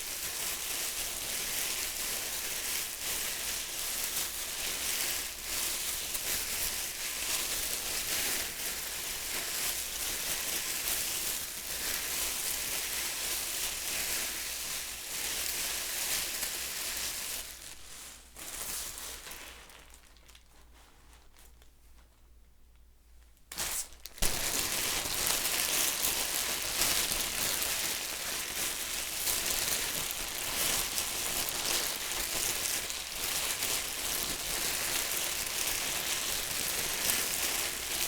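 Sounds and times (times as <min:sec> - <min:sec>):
plastic bag crinkling: 0:00.0 - 0:22.1, 0:23.4 - 0:38.0.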